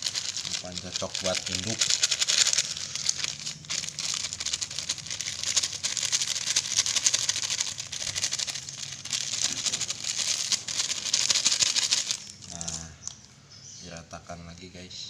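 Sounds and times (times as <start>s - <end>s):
salt pattering into plastic bowl: 0.0s - 12.9s
plastic sachet crinkling: 0.0s - 13.2s.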